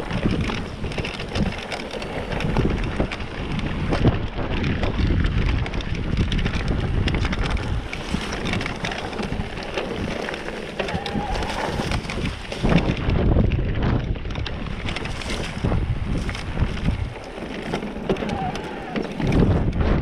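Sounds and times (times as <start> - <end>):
bike rattling and clicking: 0.0 - 20.0
tyres crunching over dirt: 0.0 - 20.0
wind rumbling on microphone: 0.0 - 20.0.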